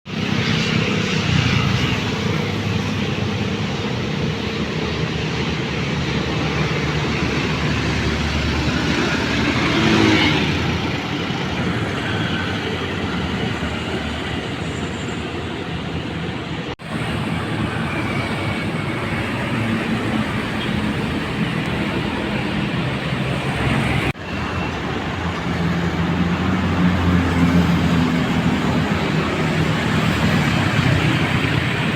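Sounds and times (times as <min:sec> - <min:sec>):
road traffic: 0:00.0 - 0:31.9.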